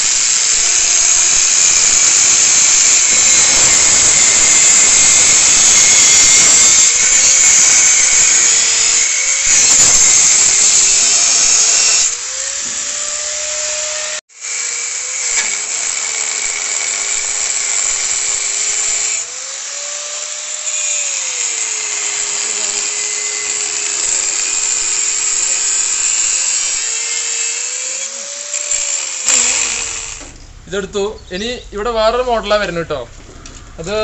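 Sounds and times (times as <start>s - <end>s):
angle grinder cutting steel: 0.0s - 34.0s.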